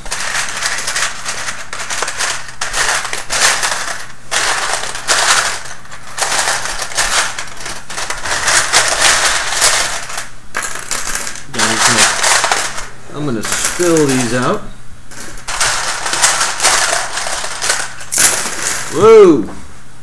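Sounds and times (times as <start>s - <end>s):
plastic bag crinkling and rustling: 0.0s - 19.0s.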